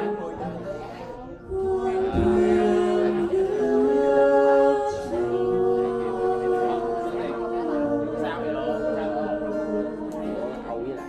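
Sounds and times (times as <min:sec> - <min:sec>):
man and woman singing: 0:00.0 - 0:11.0
strummed acoustic guitar: 0:00.0 - 0:11.0.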